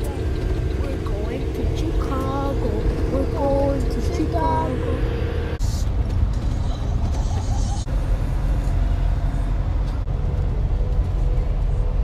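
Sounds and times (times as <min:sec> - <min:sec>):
truck driving on road: 0:00.0 - 0:12.0.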